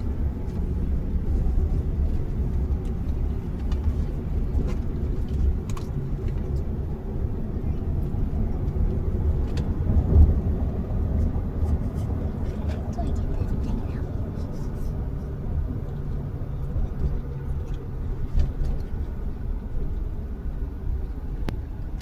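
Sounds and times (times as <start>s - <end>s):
road and engine rumble in cabin: 0.0s - 22.0s.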